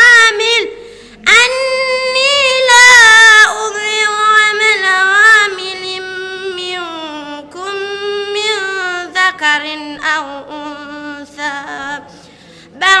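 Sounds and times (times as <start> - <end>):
girl chanting recitation: 0.0 - 13.0.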